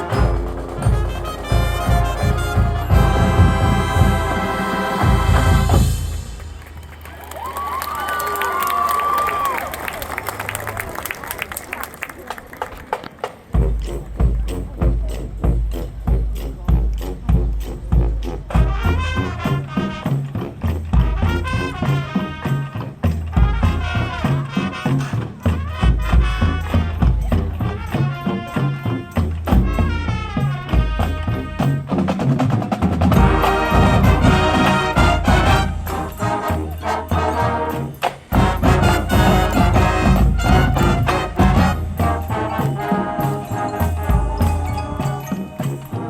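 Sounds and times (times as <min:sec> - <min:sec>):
brass horns: 0:00.0 - 0:07.2, 0:13.5 - 0:46.0
drumline and bass drums: 0:00.0 - 0:10.9, 0:12.2 - 0:46.0.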